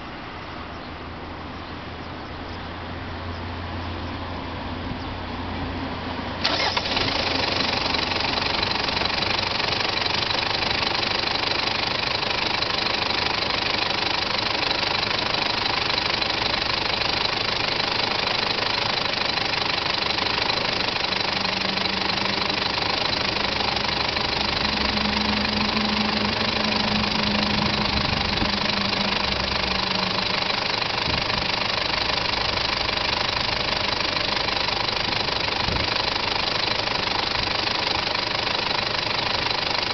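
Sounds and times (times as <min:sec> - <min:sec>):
diesel engine idling: 0:01.2 - 0:39.9.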